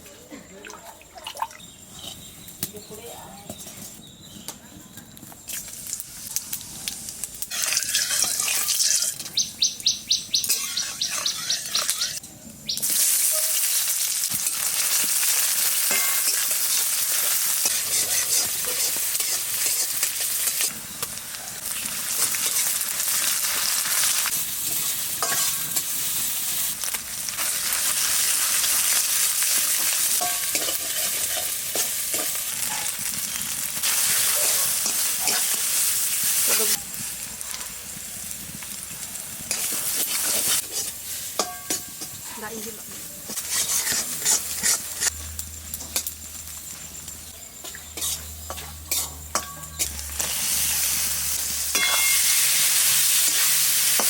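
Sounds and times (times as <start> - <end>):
food sizzling in a pan: 5.5 - 54.0.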